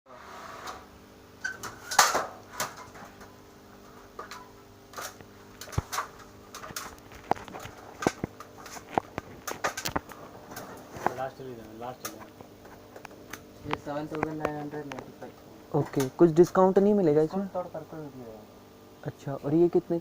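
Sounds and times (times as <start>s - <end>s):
faint steady hum: 0.1s - 20.0s.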